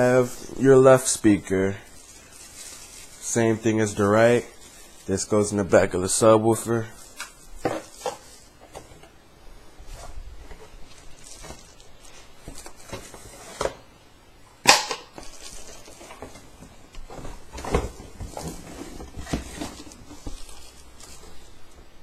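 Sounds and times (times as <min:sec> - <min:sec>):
packaging rustling: 0:00.3 - 0:05.4, 0:07.0 - 0:09.1, 0:09.9 - 0:13.8, 0:15.1 - 0:21.8.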